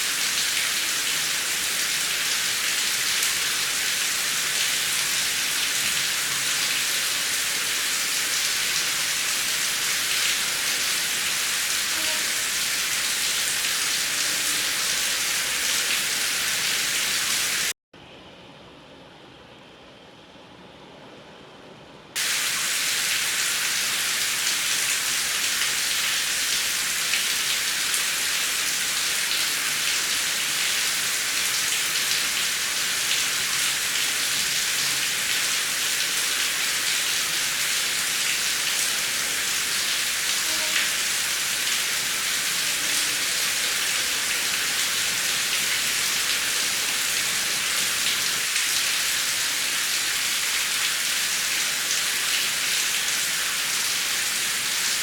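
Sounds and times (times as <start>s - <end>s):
heavy rain falling: 0.0s - 17.7s, 22.2s - 55.0s.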